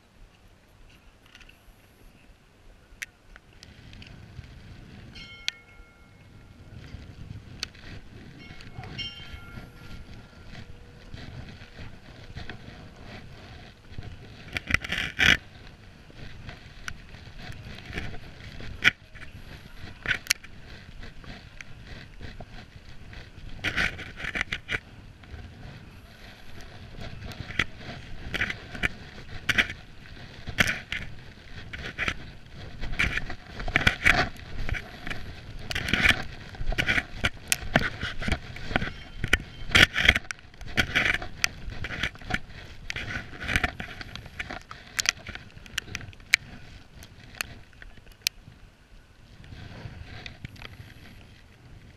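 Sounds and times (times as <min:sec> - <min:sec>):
low outdoor background: 0:00.0 - 0:51.9.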